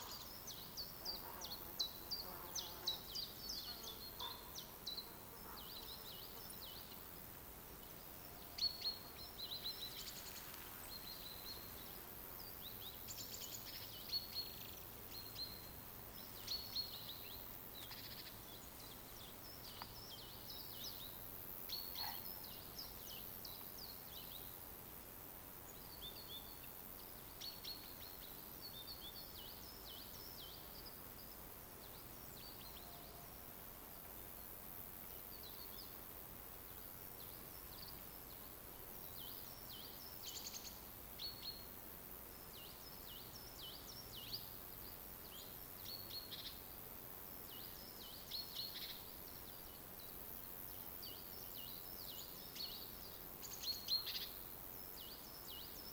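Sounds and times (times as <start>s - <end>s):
faint background hiss: 0.0s - 55.9s
songbirds chirping: 0.0s - 55.9s.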